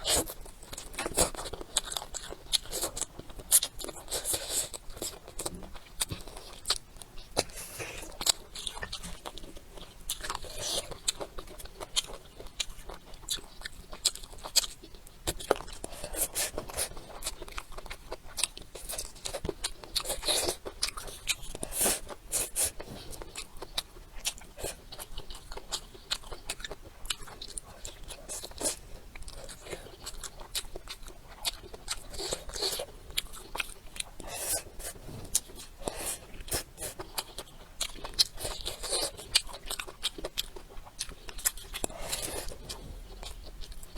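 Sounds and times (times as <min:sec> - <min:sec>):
person biting and chewing food: 0:00.0 - 0:43.9.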